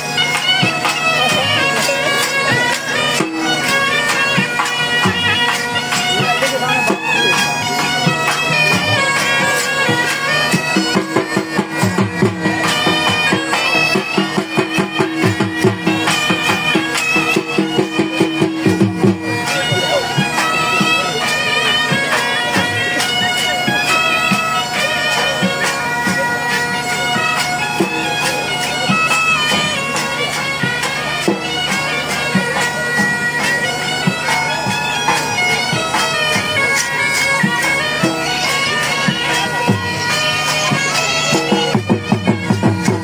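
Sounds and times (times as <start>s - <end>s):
bagpipes playing dance tune: 0.0s - 43.0s
drum strokes: 0.0s - 43.0s.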